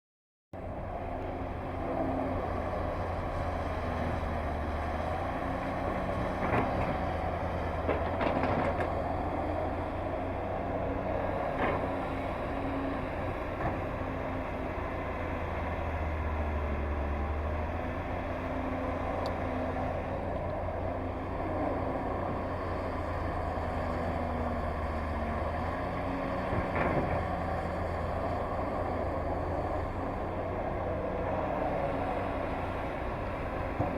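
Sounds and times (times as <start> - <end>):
excavator diesel engine: 0.6 - 33.9.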